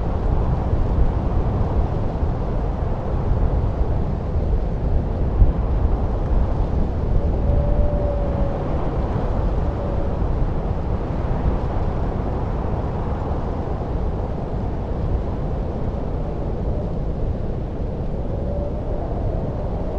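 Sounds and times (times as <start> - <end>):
blizzard wind rushing: 0.0 - 19.9
whistling wind howl: 0.0 - 19.9.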